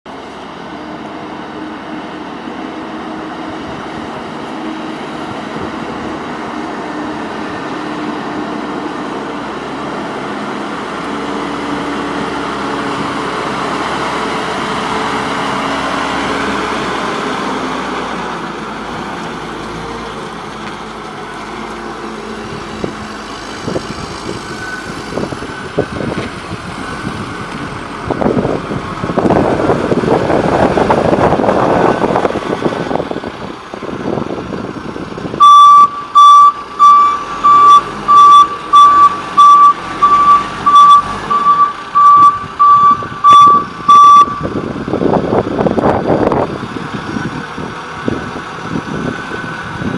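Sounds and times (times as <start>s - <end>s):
diesel engine running: 0.1s - 49.9s.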